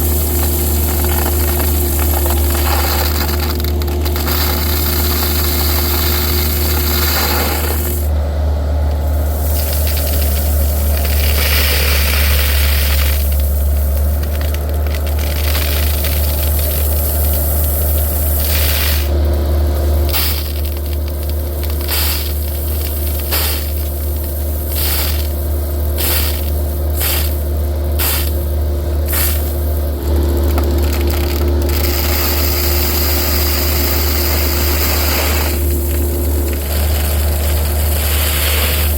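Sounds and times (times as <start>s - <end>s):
excavator engine running: 0.0s - 38.9s
gravel rattling and scraping: 0.0s - 38.9s.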